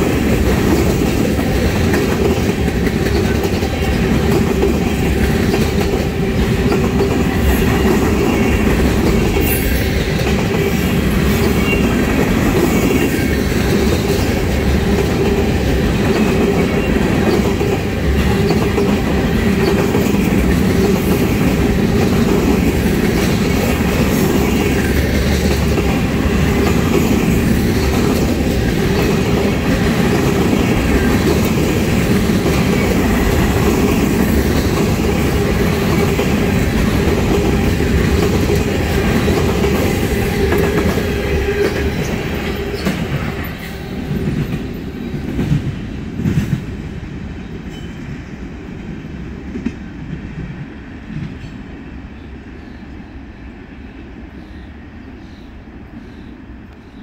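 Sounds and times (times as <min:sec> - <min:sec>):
steel wheels clattering on rails: 0:00.0 - 0:46.7.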